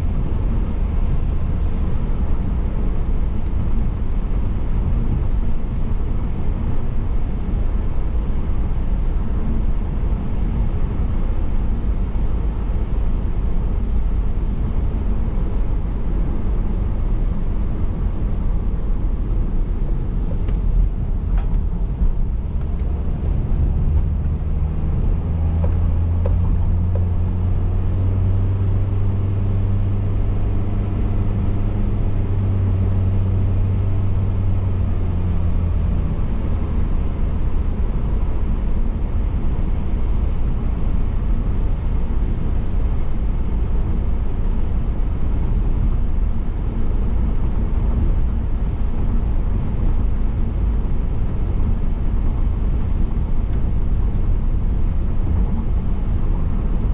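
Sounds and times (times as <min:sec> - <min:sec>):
low engine drone: 0:00.0 - 0:56.9
road and tyre rumble: 0:00.0 - 0:56.9.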